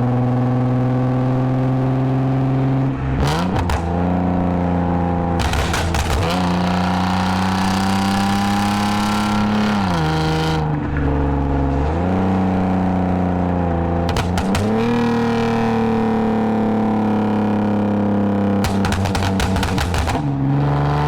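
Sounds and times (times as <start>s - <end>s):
car engine exhaust note: 2.7s - 20.6s.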